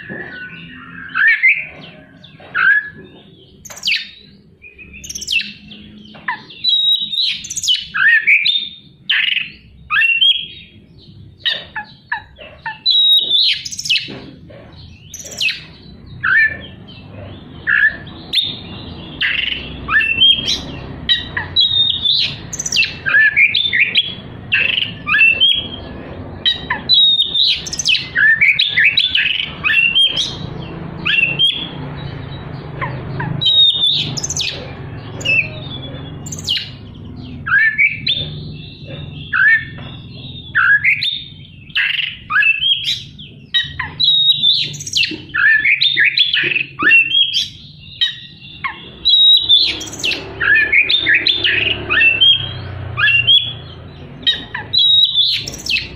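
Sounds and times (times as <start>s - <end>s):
bird singing whistled notes: 0.0s - 10.8s, 12.8s - 14.1s, 15.0s - 55.9s.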